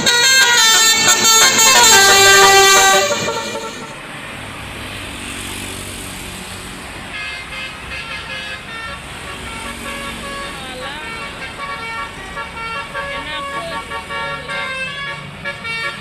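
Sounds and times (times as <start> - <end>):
multi-tone bus horn tune: 0.0 - 4.4, 7.1 - 16.0.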